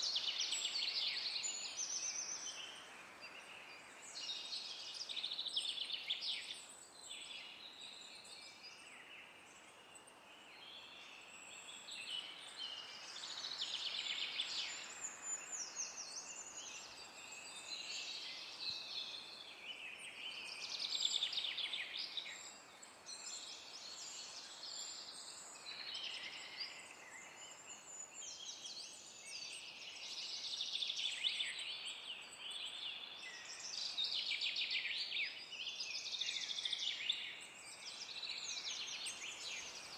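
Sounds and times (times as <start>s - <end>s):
songbirds singing: 0.0s - 39.9s
wind hissing in forest: 0.0s - 39.9s.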